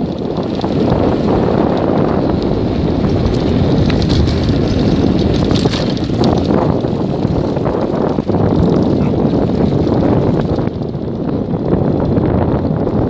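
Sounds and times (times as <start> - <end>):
bicycle clicks and rattles: 0.0 - 13.0
wind buffeting microphone: 0.0 - 13.0.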